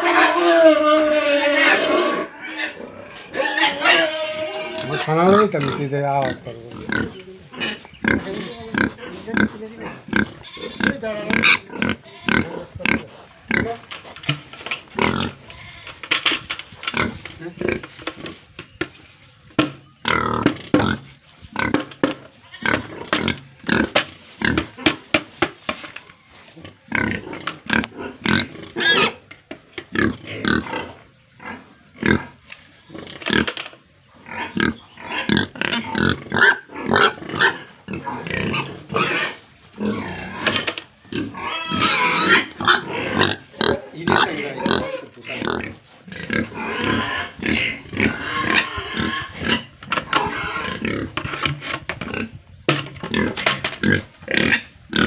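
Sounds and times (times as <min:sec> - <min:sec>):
pigs grunting and squealing: 0:00.0 - 0:18.8, 0:19.6 - 0:55.0.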